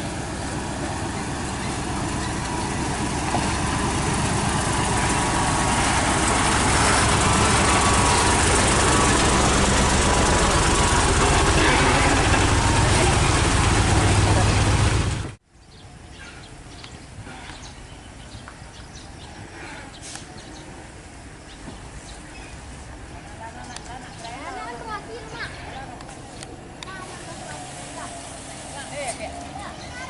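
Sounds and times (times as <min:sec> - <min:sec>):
truck diesel engine pulling uphill: 0:00.0 - 0:15.4, 0:19.5 - 0:30.0.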